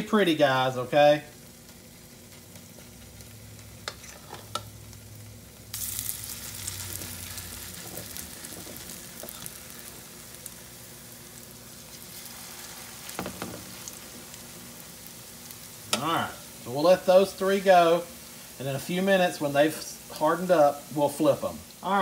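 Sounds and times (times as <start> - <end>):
batter frying in hot grease: 0.0 - 22.0.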